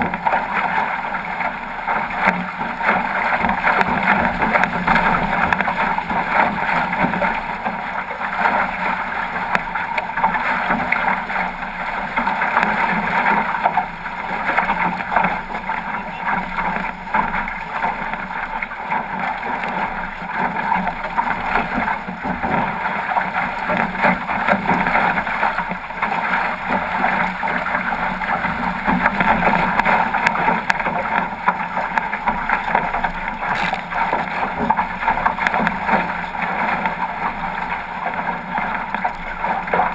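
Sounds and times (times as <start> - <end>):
water rushing along boat hull: 0.0 - 39.9.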